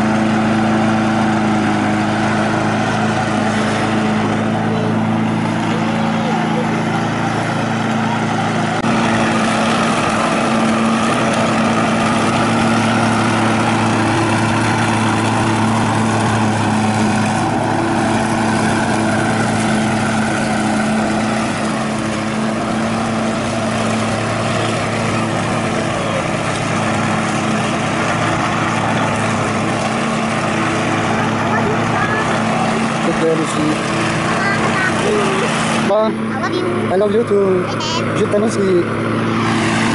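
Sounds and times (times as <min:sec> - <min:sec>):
petrol lawn mower running: 0:00.0 - 0:39.9.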